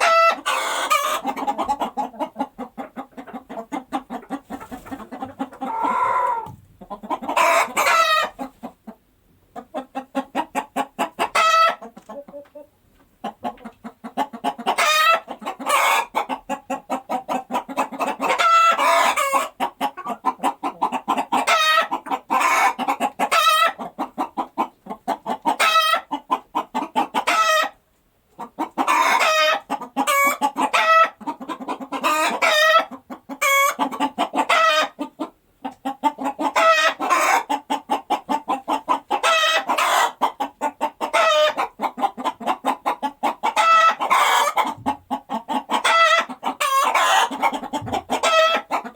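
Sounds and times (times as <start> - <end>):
hens clucking and cackling: 0.0 - 48.9.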